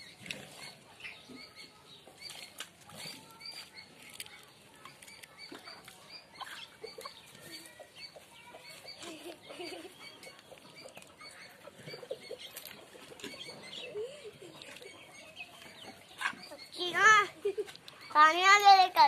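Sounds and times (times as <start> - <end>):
chickens clucking: 0.0 - 19.0
chicken feet scurrying: 0.4 - 18.7.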